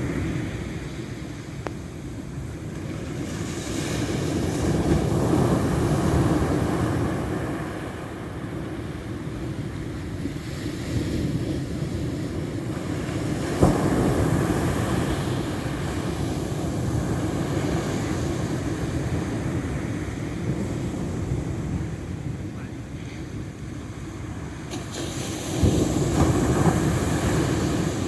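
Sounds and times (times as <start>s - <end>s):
ocean waves washing in: 0.0s - 28.0s
wind rumbling on microphone: 0.0s - 28.0s.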